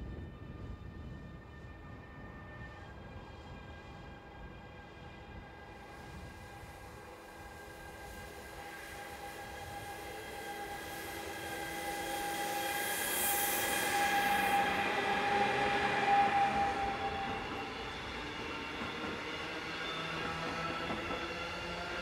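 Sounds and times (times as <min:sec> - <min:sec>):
electric locomotive whine: 0:00.0 - 0:22.0
freight train rolling: 0:00.8 - 0:22.0.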